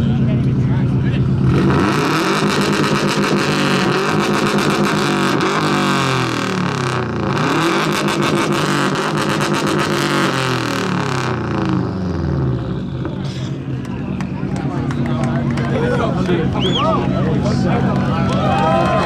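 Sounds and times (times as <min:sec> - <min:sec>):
car exhaust revving hard: 0:00.0 - 0:19.0.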